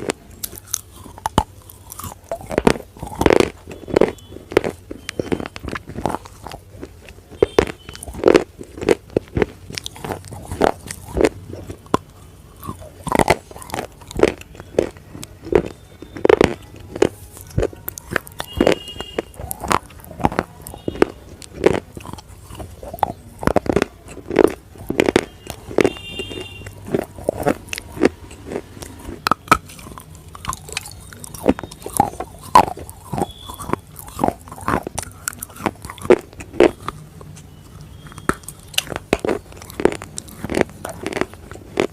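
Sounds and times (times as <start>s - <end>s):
bar being bitten and chewed: 0.0s - 41.9s.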